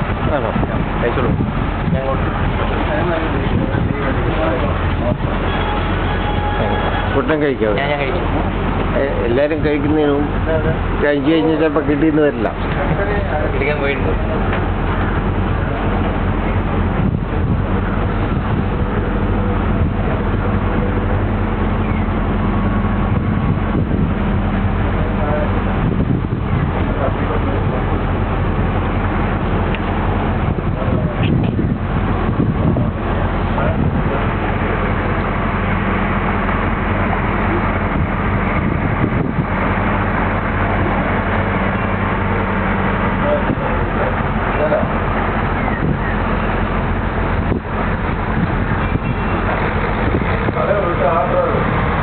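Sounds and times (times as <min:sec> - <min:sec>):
boat engine humming: 0:00.0 - 0:52.0
rushing noise: 0:00.0 - 0:52.0.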